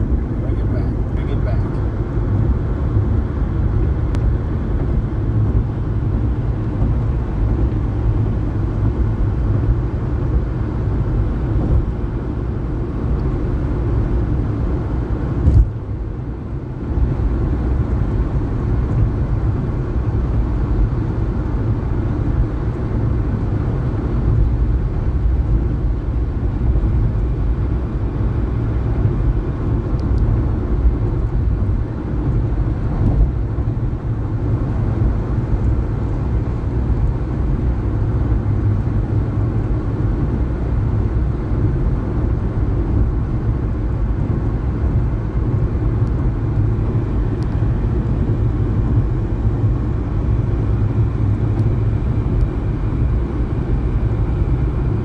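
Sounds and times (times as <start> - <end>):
road and tyre noise in car: 0.0 - 55.0.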